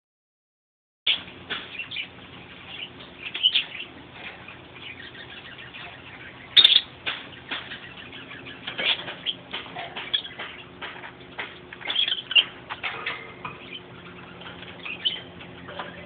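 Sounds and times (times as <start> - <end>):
cockatiels chirping: 2.7 - 16.0.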